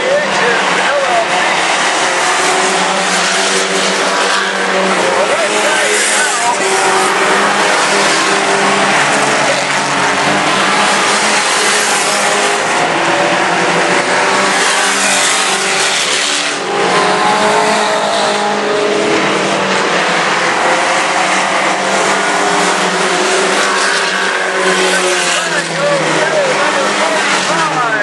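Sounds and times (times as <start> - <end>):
race truck engines droning: 0.0 - 28.0.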